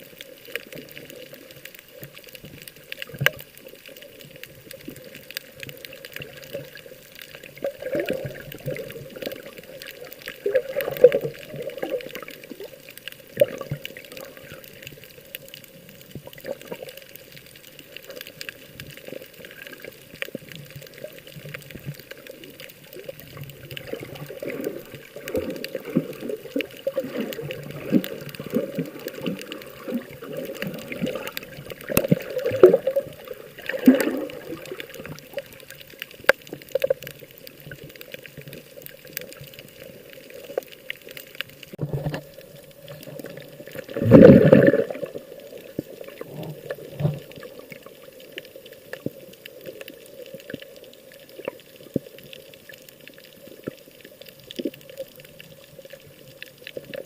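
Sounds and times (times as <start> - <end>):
water sloshing and splashing: 0.0 - 15.1, 17.7 - 57.0.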